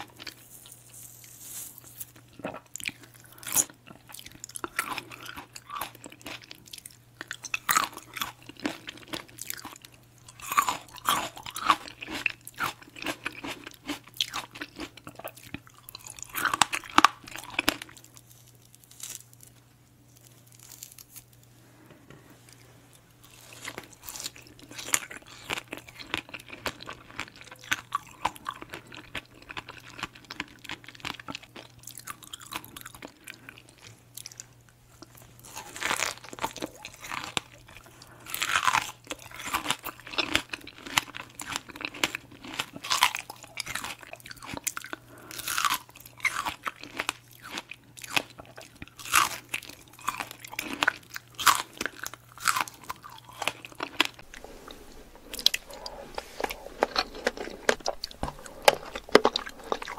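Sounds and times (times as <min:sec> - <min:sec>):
biting and chewing fruit: 0:00.0 - 0:21.4, 0:23.2 - 0:59.9.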